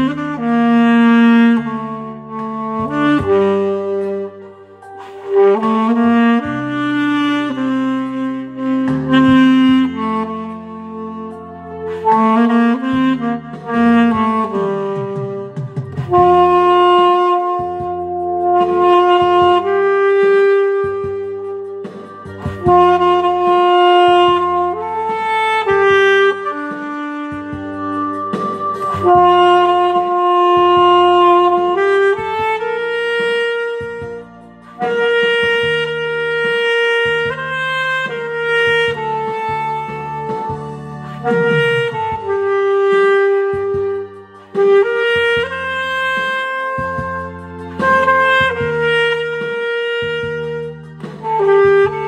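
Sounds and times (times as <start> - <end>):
backing track with bass line: 0.0 - 52.0
saxophone slow melody: 0.0 - 52.0.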